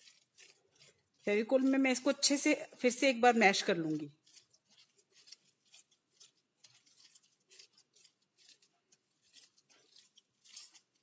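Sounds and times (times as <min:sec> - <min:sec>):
wet squelching of paper pulp: 0:00.0 - 0:11.0.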